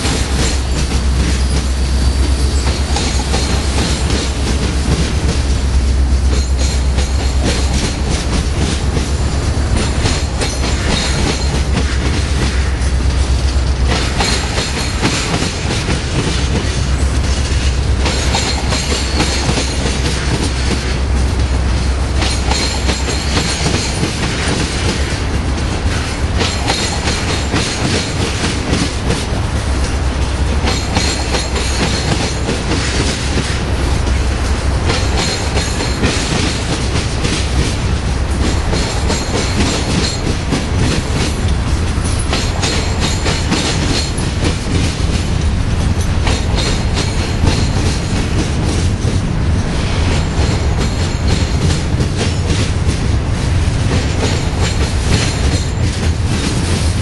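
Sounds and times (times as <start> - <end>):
low train rumble: 0.0 - 57.0
train wheels clattering over track: 0.0 - 57.0.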